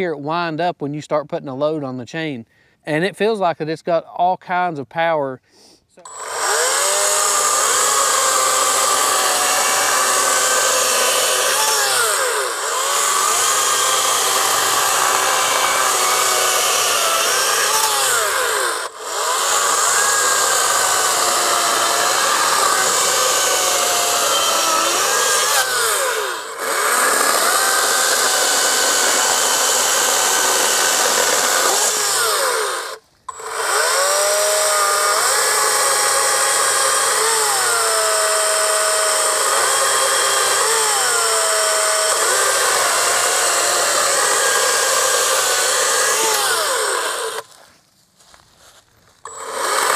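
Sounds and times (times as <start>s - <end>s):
chainsaw cutting logs: 6.0s - 47.6s, 49.2s - 49.9s.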